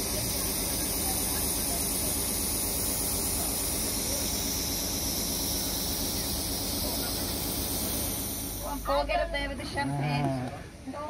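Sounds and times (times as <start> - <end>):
constant hiss: 0.0 - 11.0
engine idling: 0.0 - 11.0.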